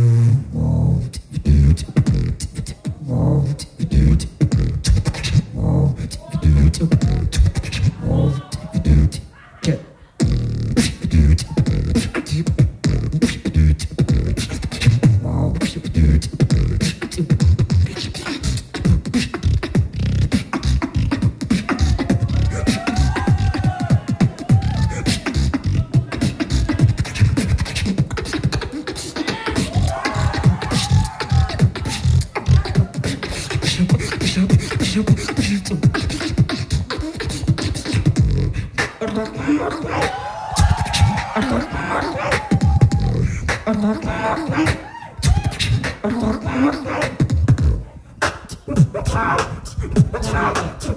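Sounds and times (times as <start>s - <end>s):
beatboxing through microphone: 0.0s - 50.9s.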